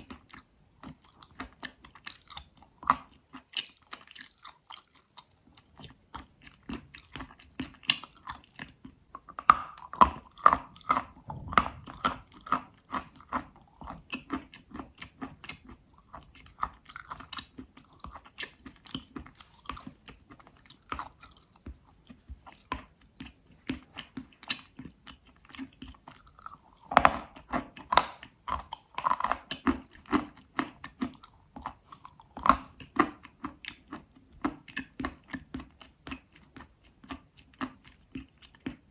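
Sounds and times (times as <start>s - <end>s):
chalk crunching while chewed: 0.0s - 38.9s.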